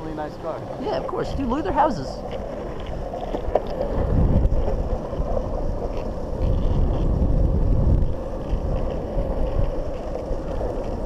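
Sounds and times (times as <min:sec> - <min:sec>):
low road rumble: 0:00.0 - 0:11.0
wind buffeting microphone: 0:00.0 - 0:11.0.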